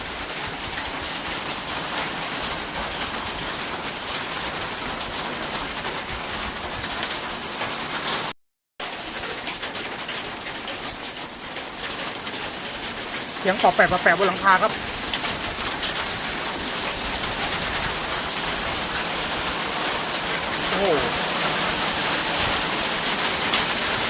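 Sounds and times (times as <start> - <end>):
rain on a metal roof: 0.0 - 24.0.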